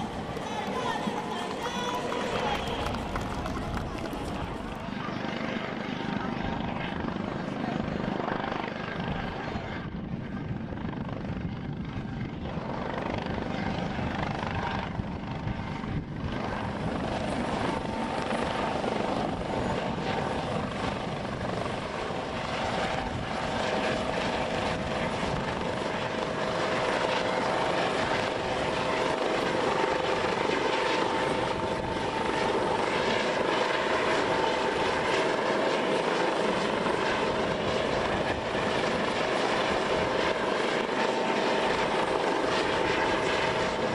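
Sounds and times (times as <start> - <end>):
helicopter rotor and turbine: 0.0 - 43.9.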